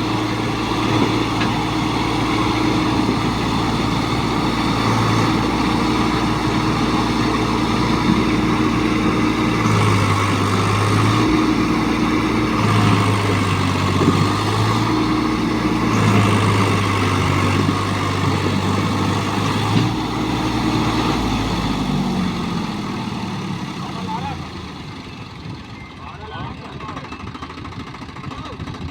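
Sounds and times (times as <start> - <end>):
diesel tractor engine under load: 0.0 - 28.9.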